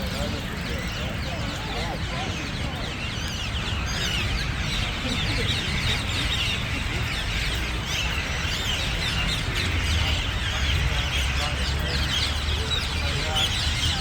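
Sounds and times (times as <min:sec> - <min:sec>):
flock of birds chirping: 0:00.0 - 0:14.0.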